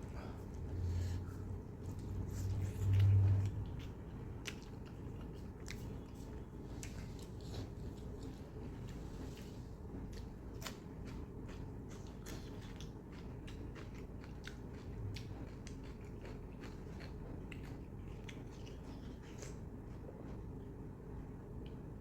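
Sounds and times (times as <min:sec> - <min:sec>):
person chewing food: 0:00.0 - 0:20.8
low hum: 0:00.0 - 0:22.0.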